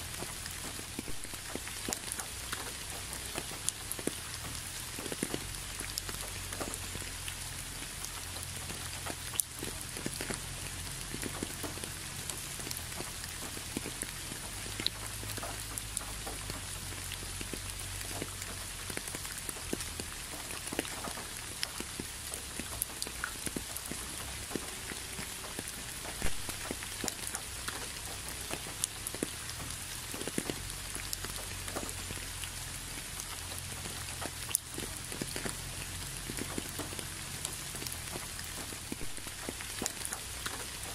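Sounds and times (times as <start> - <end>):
rain on leaves and wet ground: 0.0 - 40.9
raindrops ticking: 0.0 - 40.9.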